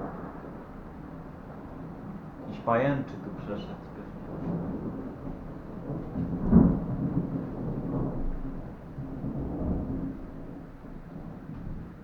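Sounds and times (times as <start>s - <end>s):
thunder clap and rumble: 0.0s - 12.0s.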